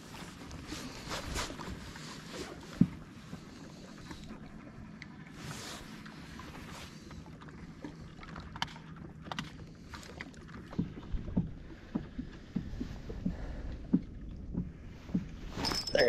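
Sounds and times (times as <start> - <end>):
low steady hum: 0.0 - 16.0
water lapping against hull: 0.0 - 16.0.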